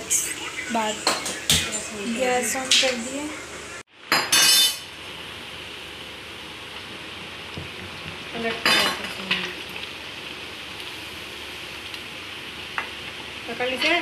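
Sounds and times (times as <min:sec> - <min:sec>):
frying in hot oil sizzling: 0:00.0 - 0:14.0.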